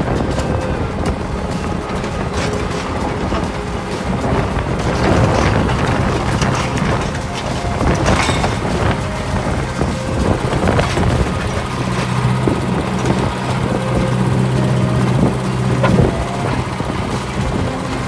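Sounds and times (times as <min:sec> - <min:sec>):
diesel engine running: 0:00.0 - 0:18.0
sharp metal clanks and knocks: 0:01.1 - 0:18.0.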